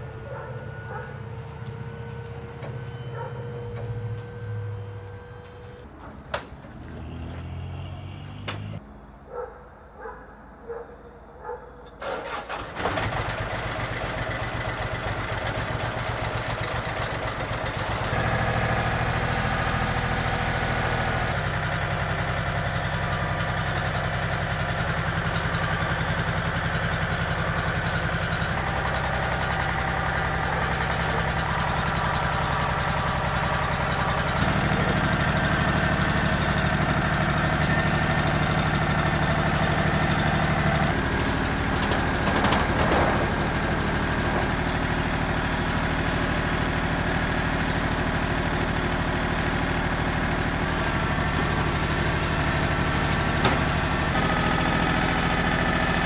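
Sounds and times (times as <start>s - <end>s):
diesel tractor engine revving: 0.0s - 6.0s, 6.6s - 8.8s, 12.0s - 56.0s.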